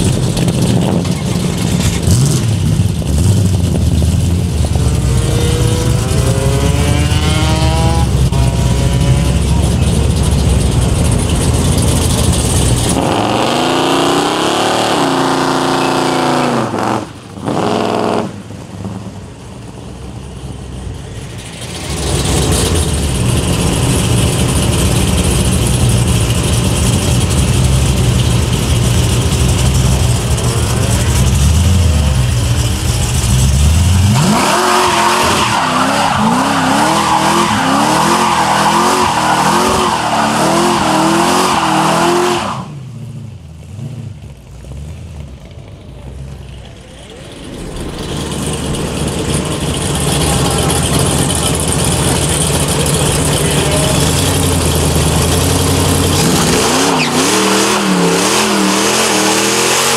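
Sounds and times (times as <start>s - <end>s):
car engines revving loudly: 0.0s - 59.9s.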